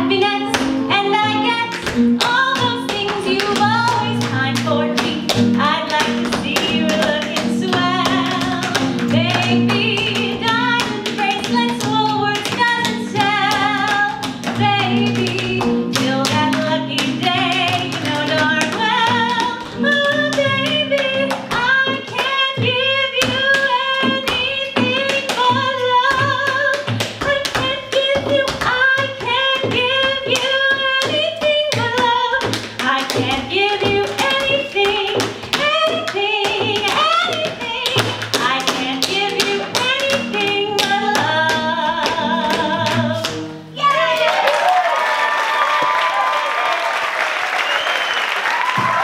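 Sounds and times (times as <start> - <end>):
acoustic guitar: 0.0 - 43.8
woman singing: 0.0 - 44.5
tap shoes striking stage: 0.1 - 49.0.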